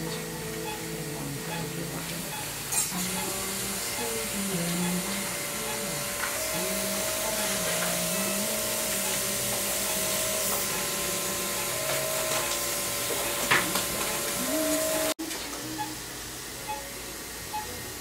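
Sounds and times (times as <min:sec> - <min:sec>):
cautery activation tone: 0:00.0 - 0:17.9.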